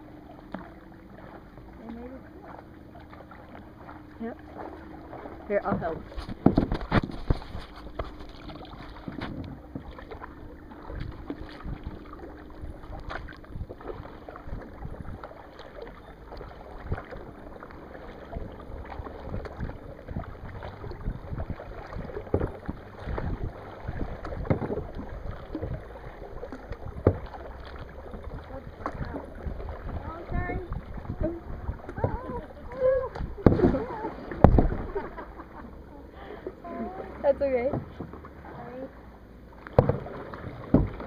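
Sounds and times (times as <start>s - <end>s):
paddle splashing in water: 0.0s - 41.0s
paddle knocks: 4.5s - 35.4s, 37.5s - 38.5s, 39.6s - 41.0s.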